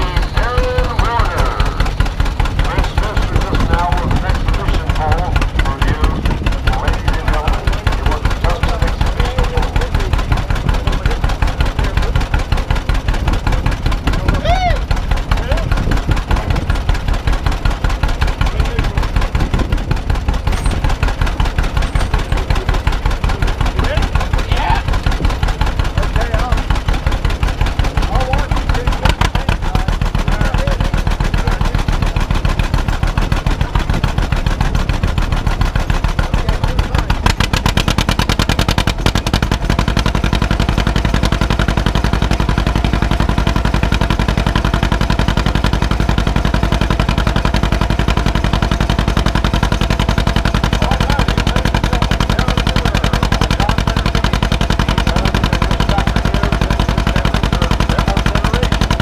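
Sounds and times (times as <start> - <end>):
tractor engine working under load: 0.0 - 59.0.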